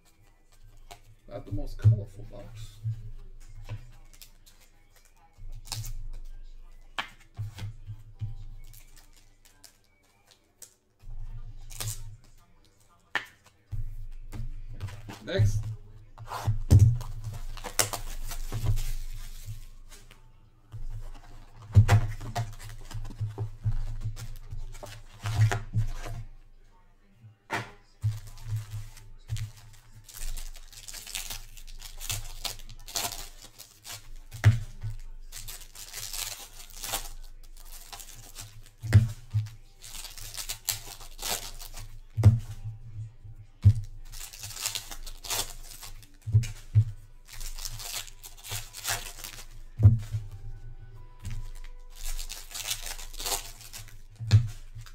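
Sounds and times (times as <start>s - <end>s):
plastic wrap tearing and crinkling: 3.4s - 7.8s, 8.6s - 10.8s, 11.5s - 13.7s, 14.8s - 26.2s, 28.1s - 42.5s, 43.6s - 50.3s, 51.2s - 54.9s.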